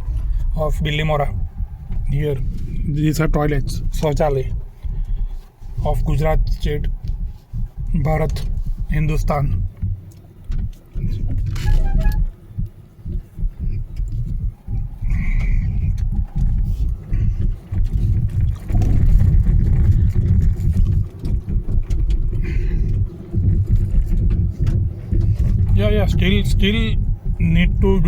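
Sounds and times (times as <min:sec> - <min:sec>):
road and wind noise rumble: 0:00.0 - 0:28.0.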